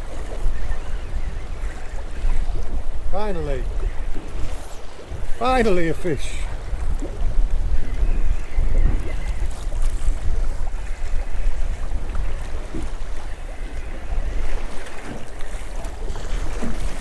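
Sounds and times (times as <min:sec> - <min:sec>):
sea washing around boat: 0:00.0 - 0:17.0
wind buffeting microphone: 0:00.0 - 0:17.0.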